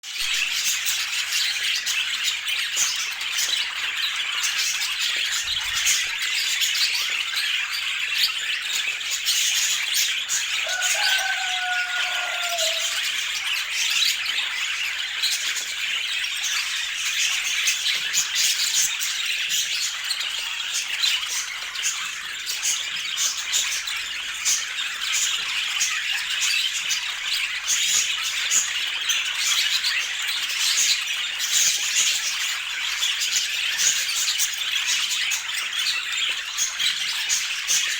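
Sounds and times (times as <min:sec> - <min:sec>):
budgies chattering and squawking: 0:00.1 - 0:37.9.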